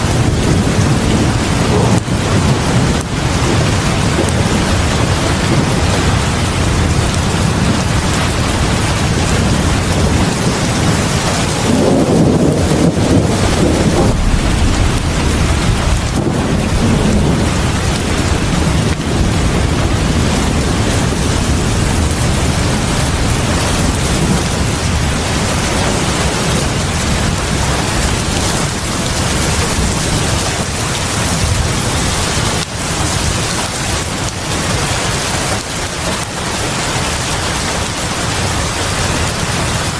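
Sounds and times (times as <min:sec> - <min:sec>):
heavy rain on porch: 0:00.0 - 0:39.9.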